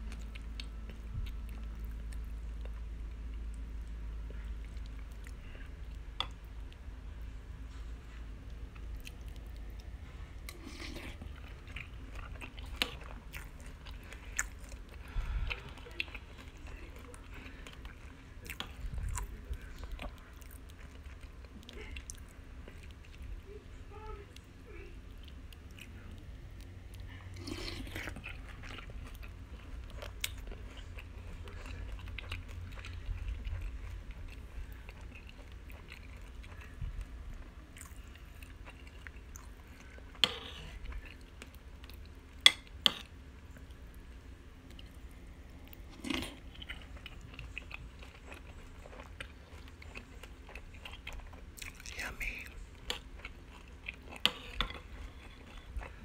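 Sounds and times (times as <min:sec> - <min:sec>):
person chewing crunchy cereal: 0:00.0 - 0:23.4, 0:25.1 - 0:44.0, 0:44.6 - 0:56.0.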